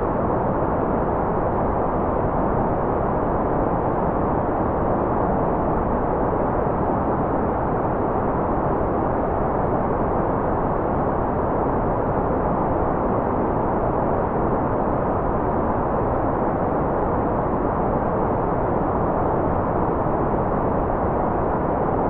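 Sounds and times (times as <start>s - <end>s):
muffled white noise rush: 0.0s - 22.0s.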